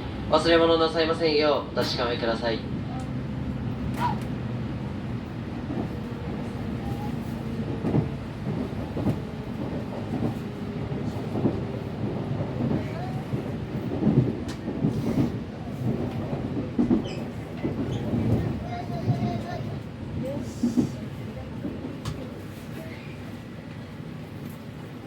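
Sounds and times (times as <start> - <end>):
train car low rumble: 0.0 - 25.0.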